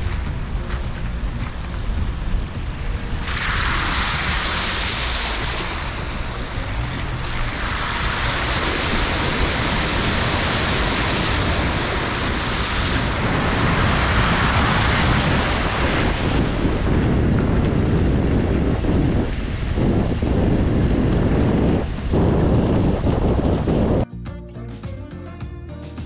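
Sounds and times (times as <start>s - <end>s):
water spraying off car wheels: 0.0s - 23.6s
car engine rumble: 0.0s - 24.0s.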